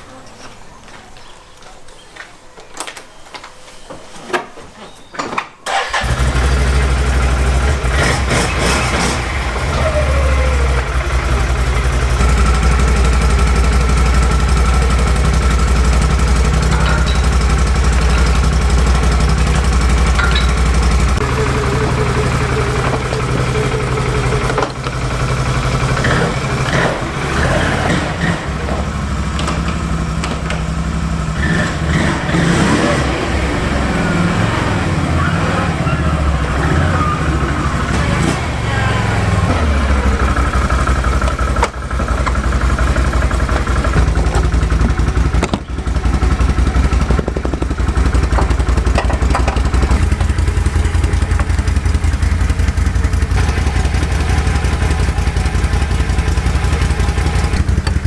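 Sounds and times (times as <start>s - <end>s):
vehicle engine starting and running: 5.6s - 58.0s.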